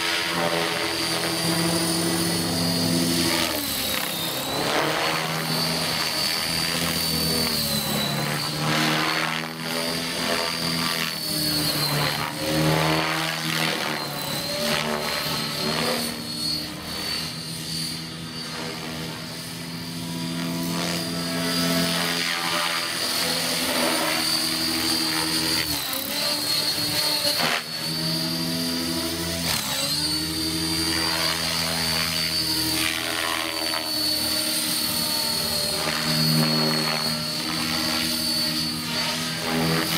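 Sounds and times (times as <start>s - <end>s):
low rotor hum: 0.0s - 39.9s
model helicopter motor whine: 0.0s - 39.9s.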